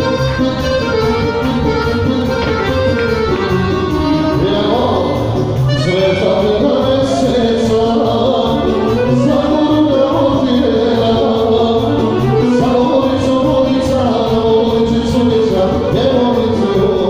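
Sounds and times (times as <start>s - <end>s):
electronic keyboard music: 0.0s - 17.0s
person singing: 0.0s - 17.0s.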